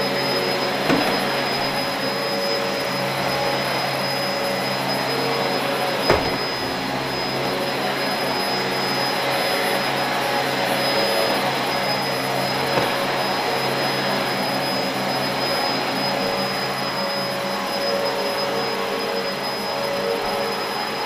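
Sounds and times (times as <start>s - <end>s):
vacuum cleaner running on carpet: 0.0s - 21.0s.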